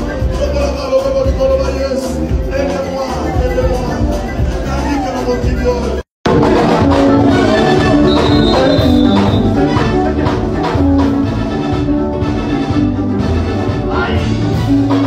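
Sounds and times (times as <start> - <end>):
loud music with many instruments: 0.0 - 15.0.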